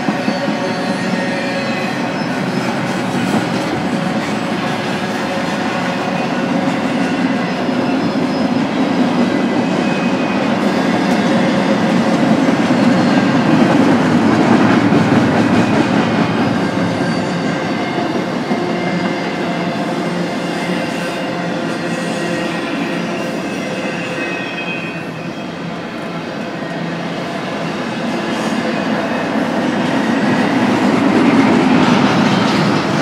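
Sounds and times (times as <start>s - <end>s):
freight train wheels rumbling on rails: 0.0s - 33.0s
high squealing wheels: 0.0s - 33.0s.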